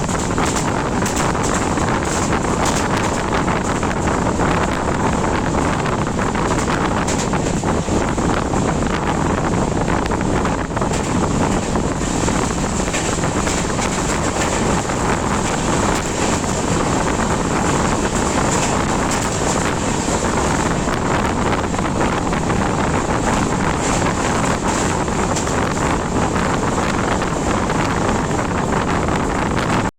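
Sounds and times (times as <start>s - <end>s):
train running at speed: 0.0s - 29.9s
wind buffeting microphone: 0.0s - 29.9s.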